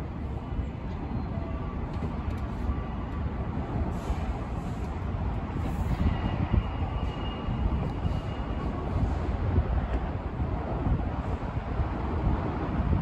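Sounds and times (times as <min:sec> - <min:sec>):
elevated train rumbling: 0:00.0 - 0:13.0.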